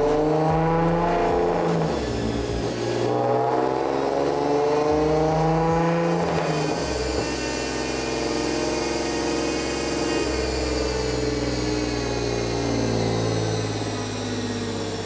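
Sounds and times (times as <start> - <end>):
car engine revving on dyno: 0.0 - 15.0.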